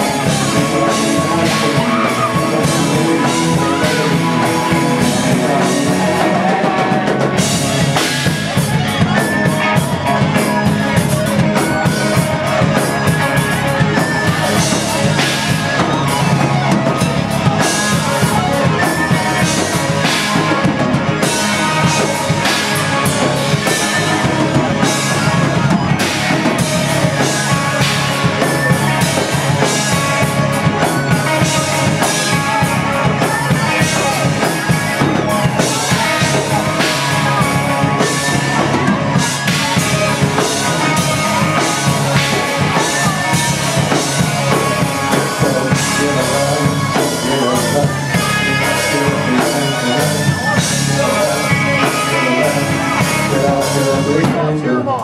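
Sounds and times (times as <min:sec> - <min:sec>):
drum kit drumming: 0:00.0 - 0:54.4
electric guitar: 0:00.0 - 0:55.0
keyboards: 0:00.0 - 0:55.0.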